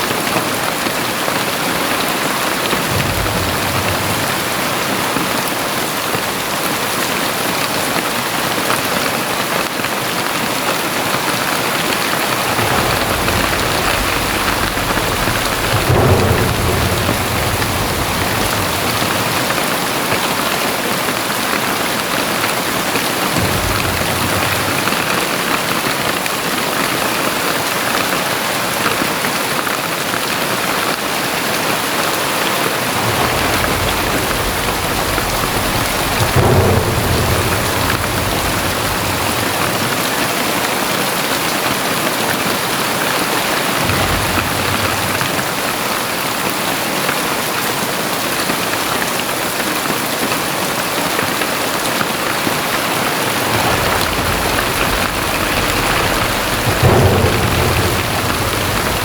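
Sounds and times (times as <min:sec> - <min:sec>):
low thunder rumbling: 0:00.0 - 0:06.8, 0:10.8 - 0:27.5, 0:31.2 - 0:47.8, 0:49.8 - 0:59.0
heavy rain falling: 0:00.0 - 0:59.0.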